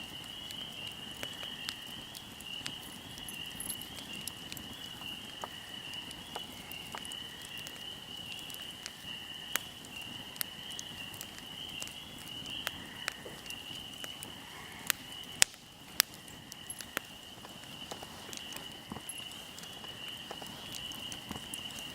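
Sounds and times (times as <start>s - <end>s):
fire crackling and popping: 0.0s - 21.9s.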